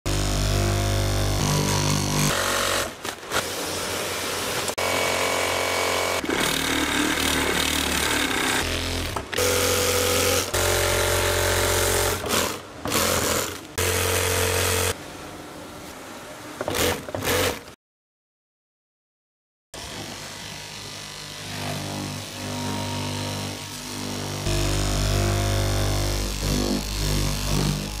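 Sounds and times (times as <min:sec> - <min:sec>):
industrial sewing machines stitching: 0:00.1 - 0:15.0, 0:16.7 - 0:17.7, 0:21.5 - 0:28.0.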